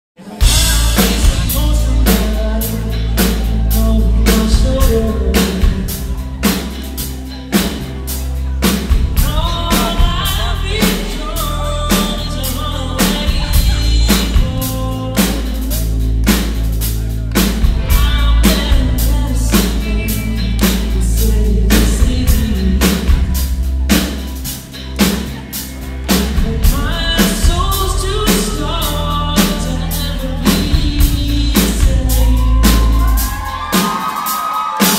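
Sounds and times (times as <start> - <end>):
lead vocal singing: 0.2 - 24.3, 26.1 - 34.9
drum kit beat: 0.2 - 34.9
heavy booming bass: 0.4 - 33.7.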